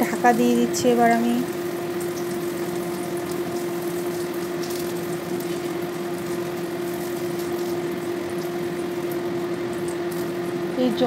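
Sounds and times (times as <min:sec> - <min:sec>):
curry simmering and sizzling: 0:00.0 - 0:11.0
steady hum: 0:00.0 - 0:11.0.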